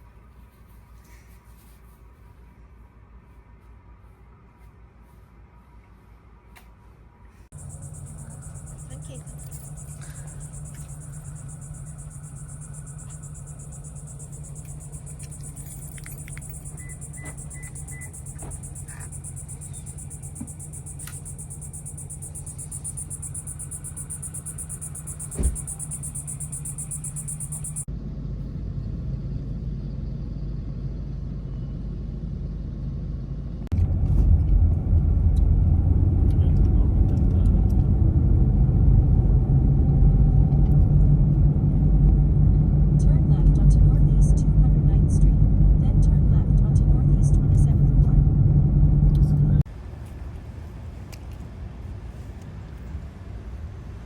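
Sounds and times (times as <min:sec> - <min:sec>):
low rumble of car in motion: 0:00.0 - 0:54.0.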